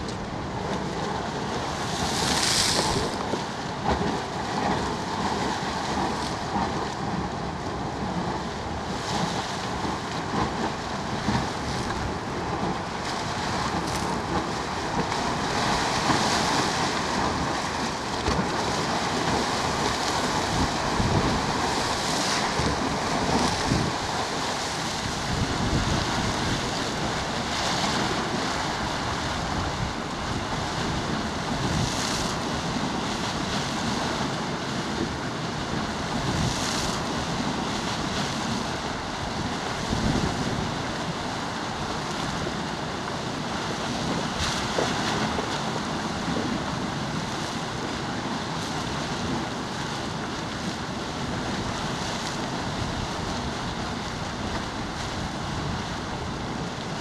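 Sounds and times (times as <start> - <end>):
geyser erupting: 0.0 - 57.0.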